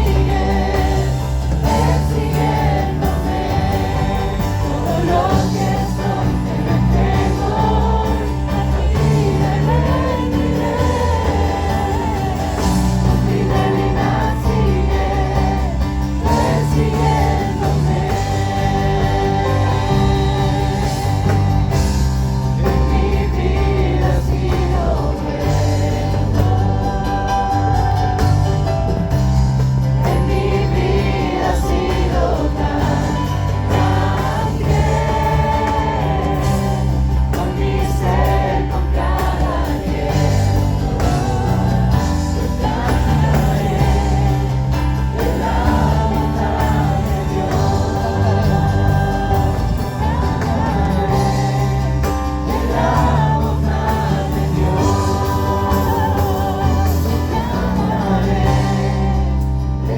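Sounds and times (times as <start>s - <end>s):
group singing worship song: 0.0s - 59.9s.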